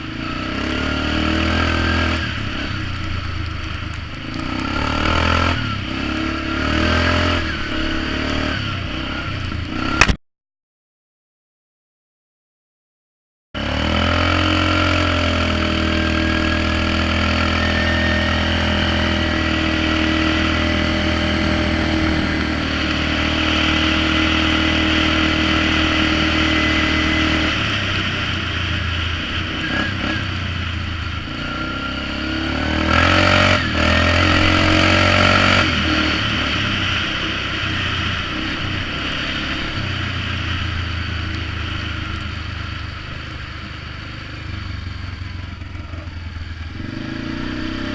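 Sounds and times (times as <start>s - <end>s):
atv engine running: 0.0s - 10.2s, 13.6s - 47.9s.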